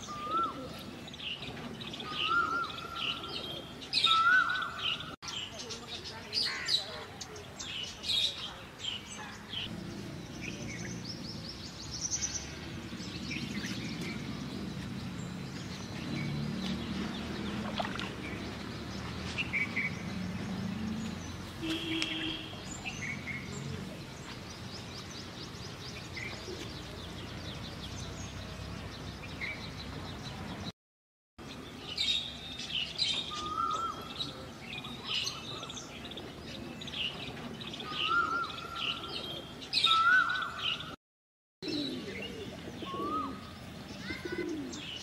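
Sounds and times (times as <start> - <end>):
outdoor background noise: 0.0 - 30.7, 31.4 - 41.0, 41.6 - 45.0
wild birds chirping: 0.0 - 30.7, 31.4 - 41.0, 41.6 - 45.0.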